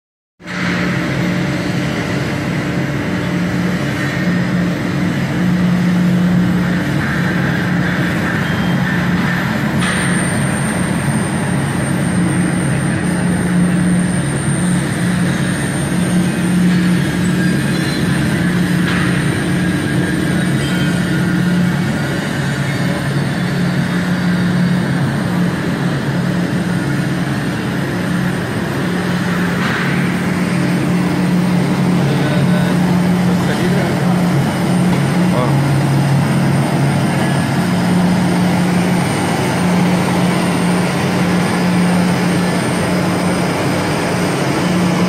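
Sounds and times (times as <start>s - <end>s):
machine humming: 0.4s - 45.0s
thin high whine: 0.4s - 45.0s.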